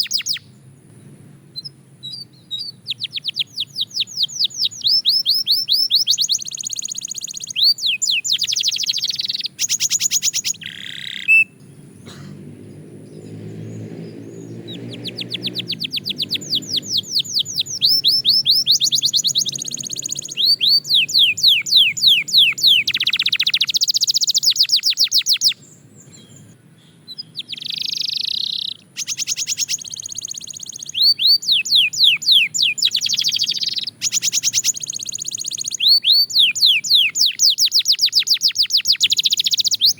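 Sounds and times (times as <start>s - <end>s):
canary singing in rapid trills: 0.0s - 0.6s, 1.6s - 11.6s, 12.7s - 39.9s.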